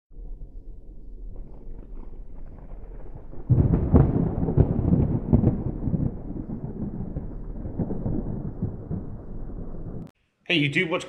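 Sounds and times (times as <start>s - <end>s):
thunder crash and rumble: 0.2s - 10.1s.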